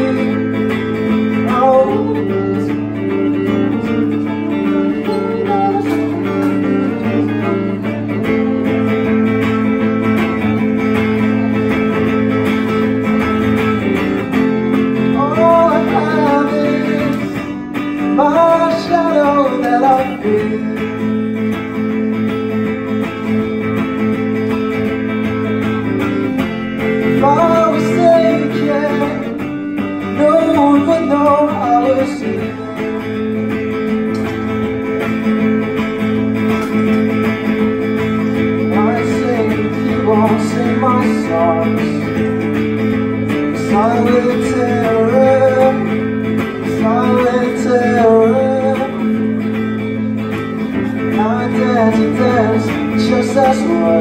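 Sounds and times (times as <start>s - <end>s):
electric guitar chords: 0.0s - 54.0s
guitar melodic line: 0.0s - 54.0s.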